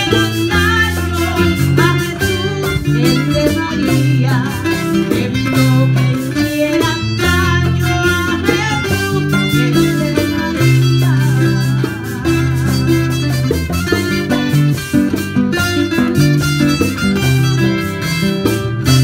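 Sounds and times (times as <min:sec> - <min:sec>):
woman singing: 0:00.0 - 0:17.0
plucked string instrument: 0:00.0 - 0:19.0.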